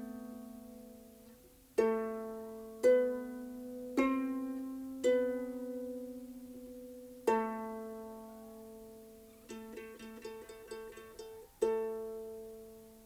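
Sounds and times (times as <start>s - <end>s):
harp plucked notes: 1.8s - 13.0s.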